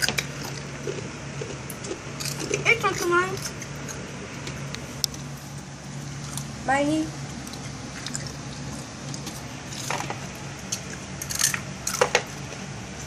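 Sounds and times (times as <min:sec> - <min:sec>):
crunching and chewing snack food: 0:00.0 - 0:05.3, 0:06.0 - 0:06.6, 0:07.3 - 0:12.7
low steady hum: 0:00.0 - 0:13.0.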